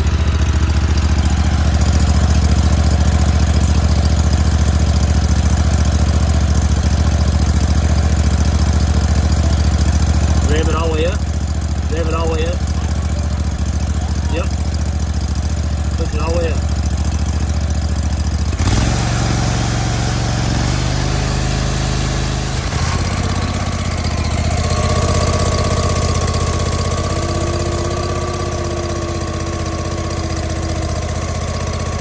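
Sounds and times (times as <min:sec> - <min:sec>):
mower engine at full throttle: 0:00.0 - 0:32.0.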